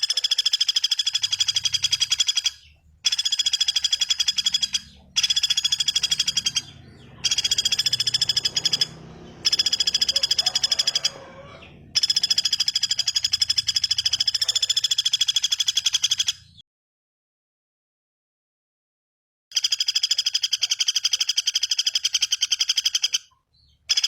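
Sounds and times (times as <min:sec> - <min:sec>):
bird rattling call: 0:00.0 - 0:16.6, 0:19.5 - 0:23.3.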